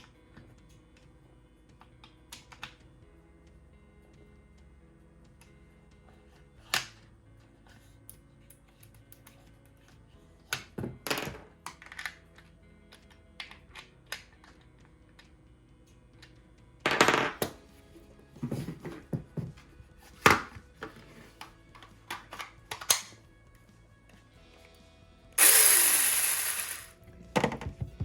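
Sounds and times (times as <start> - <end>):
faint background music: 0.0 - 28.0.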